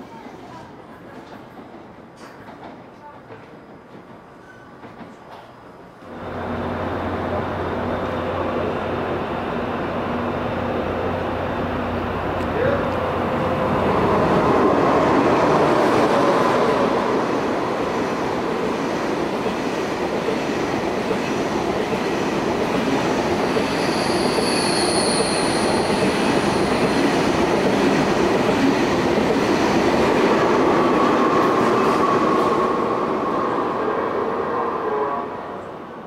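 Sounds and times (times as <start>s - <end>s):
train wheels rumbling on rails: 0.5s - 33.6s.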